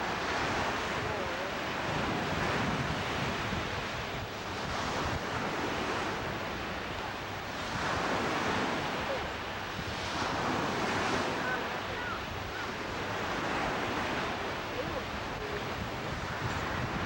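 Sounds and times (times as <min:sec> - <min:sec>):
sea waves breaking: 0:00.0 - 0:17.0
wind rumbling on microphone: 0:00.0 - 0:17.0.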